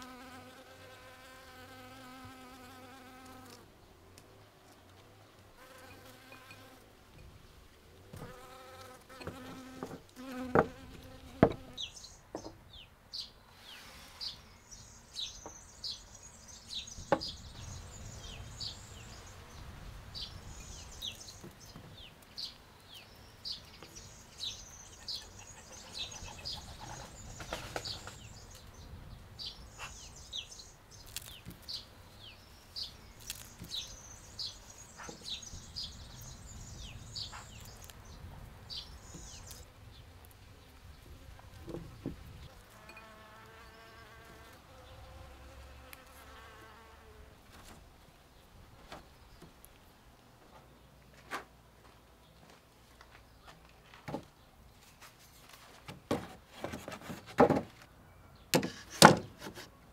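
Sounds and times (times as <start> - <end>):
songbird chirping: 1.0 - 59.9.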